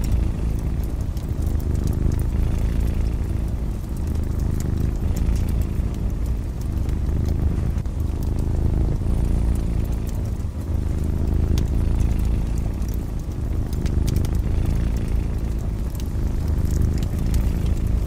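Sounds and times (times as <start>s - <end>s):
cat purring: 0.0s - 18.0s
wood fire crackling: 0.0s - 18.0s.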